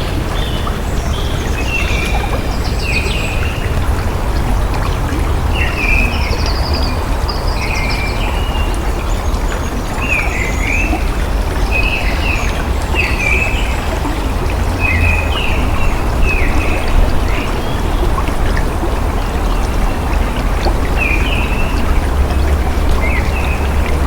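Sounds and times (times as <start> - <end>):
rushing water with deep rumble: 0.0 - 24.0.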